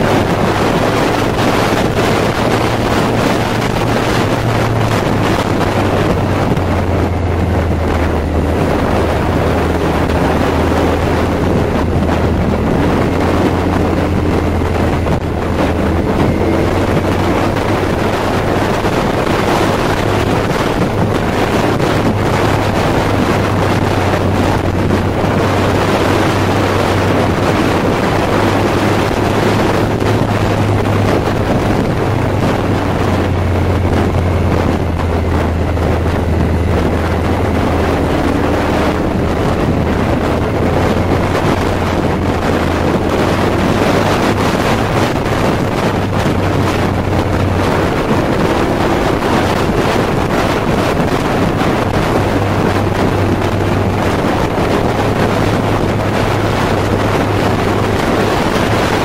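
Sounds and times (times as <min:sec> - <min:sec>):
motorcycle engine humming: 0:00.0 - 0:59.0
wind rushing on microphone: 0:00.0 - 0:59.0.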